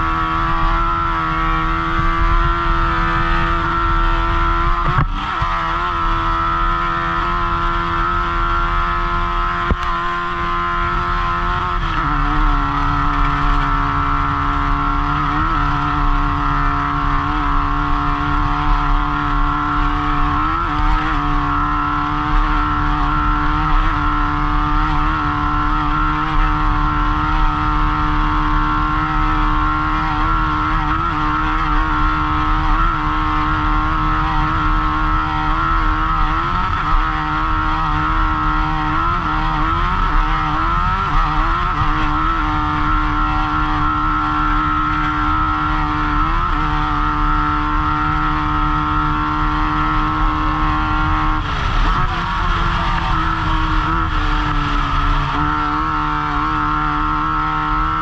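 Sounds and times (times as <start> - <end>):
race vehicle engine running hard: 0.0 - 58.0.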